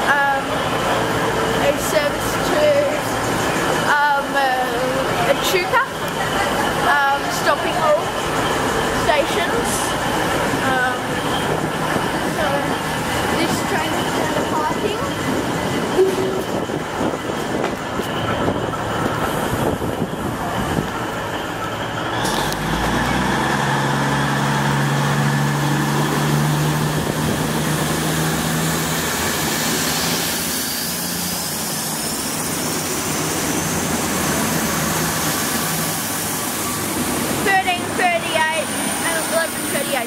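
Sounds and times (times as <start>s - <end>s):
rush of train wheels: 0.0s - 40.0s
train diesel engines droning: 0.0s - 40.0s.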